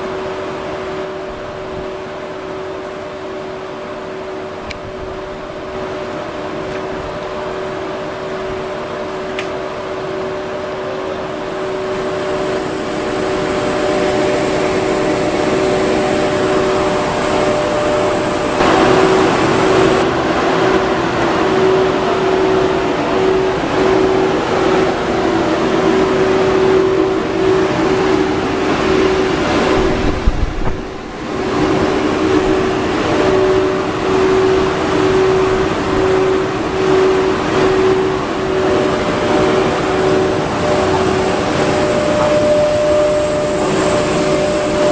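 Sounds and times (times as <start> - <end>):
electric locomotive humming: 0.0 - 44.9.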